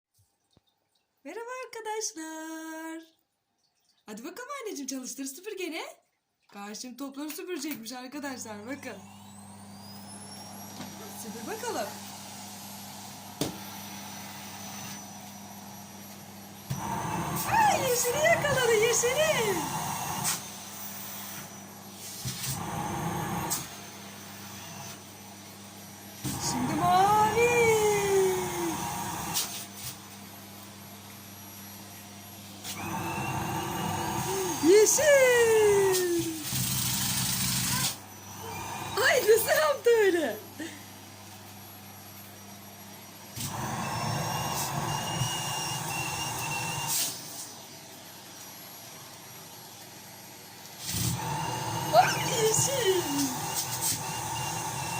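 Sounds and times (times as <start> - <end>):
vacuum cleaner running: 8.4 - 54.9.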